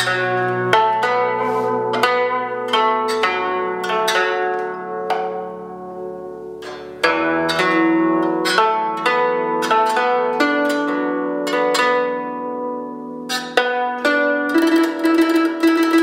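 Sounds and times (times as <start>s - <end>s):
plucked zither notes: 0.0s - 16.0s.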